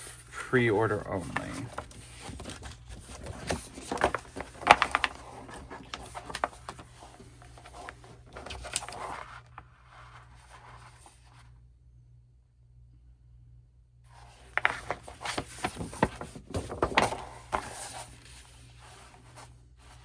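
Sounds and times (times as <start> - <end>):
paper rustling and crinkling: 0.0 - 11.4, 14.1 - 20.0.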